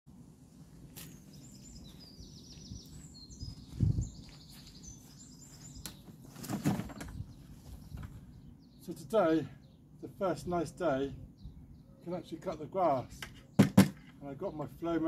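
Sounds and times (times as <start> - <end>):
small birds chirping: 0.8 - 15.0.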